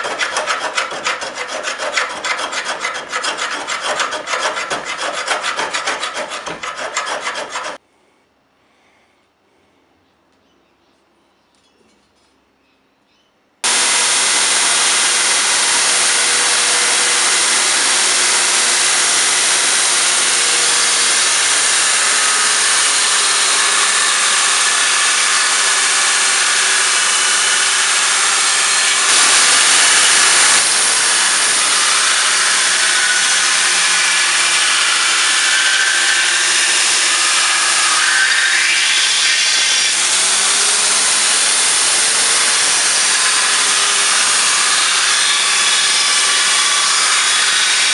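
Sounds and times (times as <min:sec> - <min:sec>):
belt grinder grinding steel: 0:00.0 - 0:07.8, 0:13.6 - 0:47.9.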